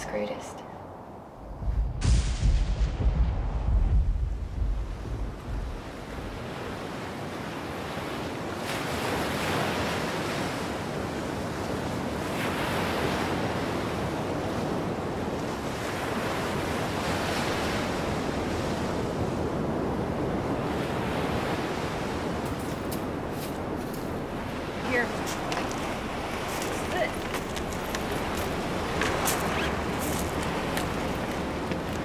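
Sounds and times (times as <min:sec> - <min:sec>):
waves washing onto beach: 0:04.2 - 0:32.0.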